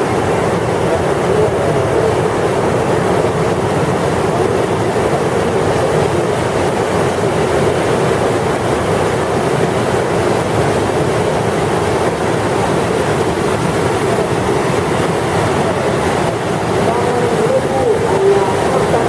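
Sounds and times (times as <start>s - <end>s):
whitewater rushing: 0.0s - 19.0s.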